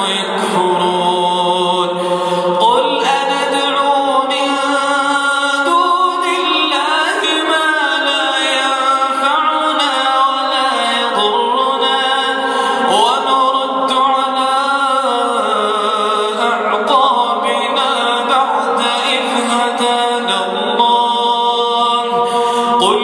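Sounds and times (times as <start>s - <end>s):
man chanting recitation: 0.0s - 23.0s.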